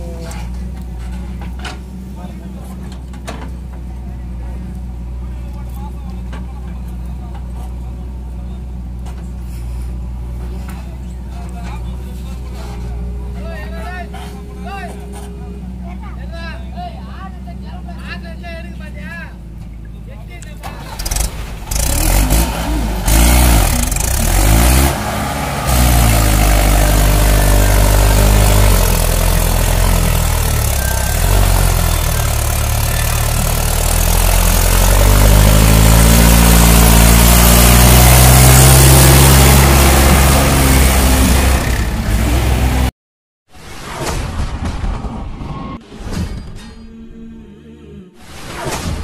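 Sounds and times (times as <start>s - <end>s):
tractor diesel engine labouring: 0.0s - 42.9s.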